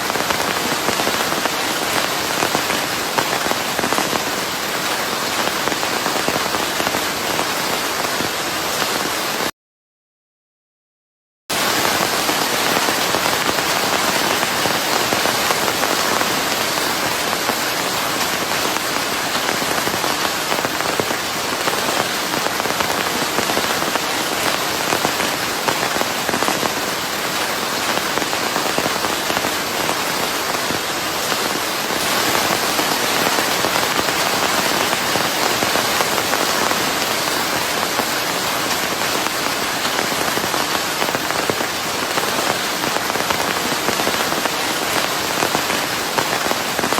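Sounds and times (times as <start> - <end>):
rain on a hard surface: 0.0 - 9.5, 11.5 - 46.9.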